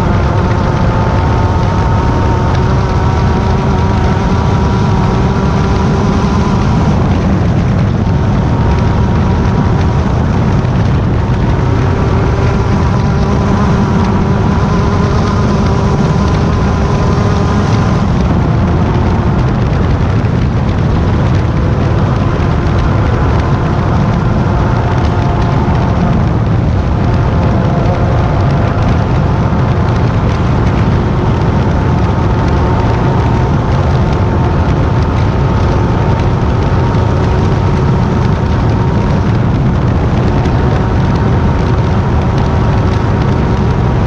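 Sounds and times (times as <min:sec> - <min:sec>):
race car engine revving high: 0:00.0 - 0:44.0.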